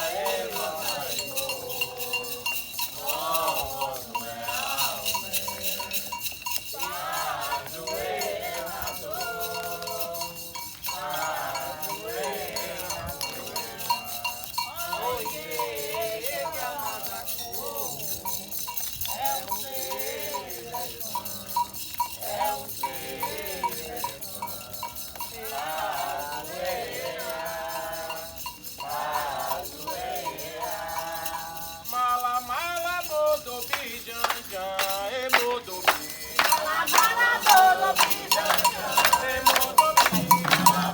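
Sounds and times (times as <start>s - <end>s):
rattling metal percussion: 0.0s - 40.9s
voices chanting: 0.0s - 40.9s.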